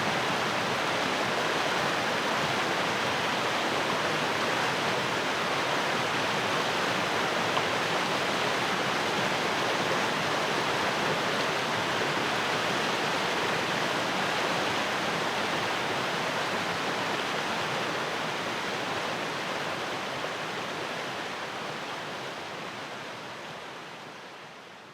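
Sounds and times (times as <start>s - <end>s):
stream rushing: 0.0s - 24.8s.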